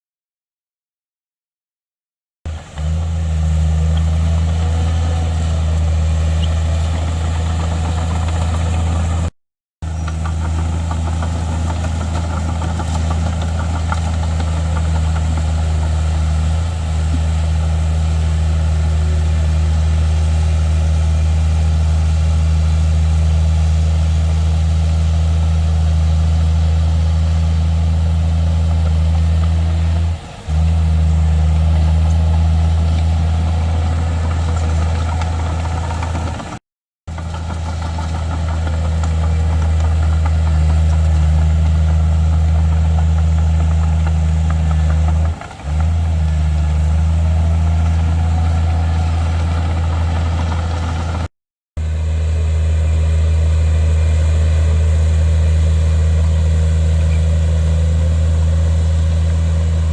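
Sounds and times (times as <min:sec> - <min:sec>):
diesel engine droning: 0:02.5 - 0:59.9.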